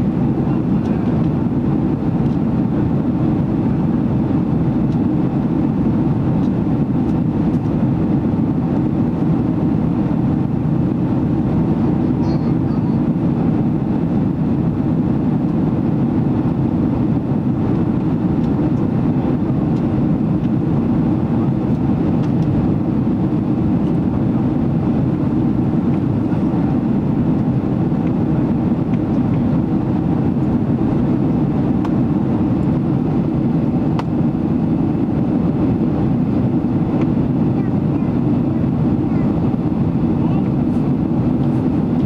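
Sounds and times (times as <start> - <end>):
airplane cabin engine drone: 0.0 - 42.0.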